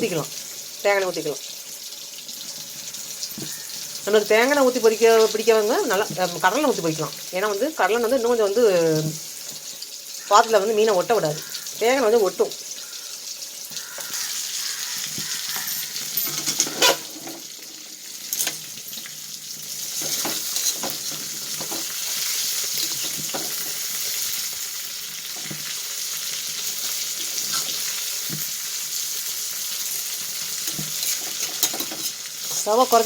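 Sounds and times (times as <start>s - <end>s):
fish sizzling in oil: 0.0s - 33.0s.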